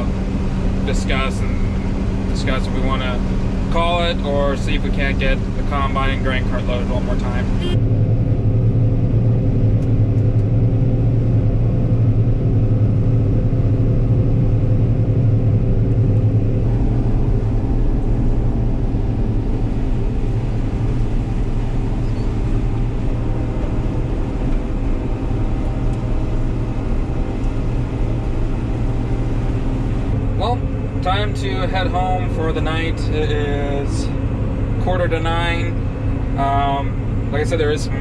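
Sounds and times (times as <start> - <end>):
heavy farm machinery engine: 0.0 - 38.0.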